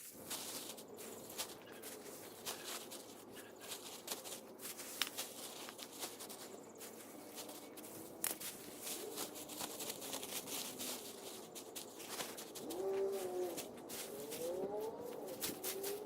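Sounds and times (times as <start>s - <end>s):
rake scraping through leaves: 0.0s - 16.0s.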